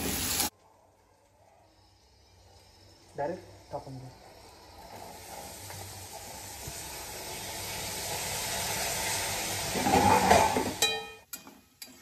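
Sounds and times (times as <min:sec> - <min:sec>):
vegetables sizzling in hot oil: 0:00.0 - 0:00.5, 0:01.7 - 0:12.0.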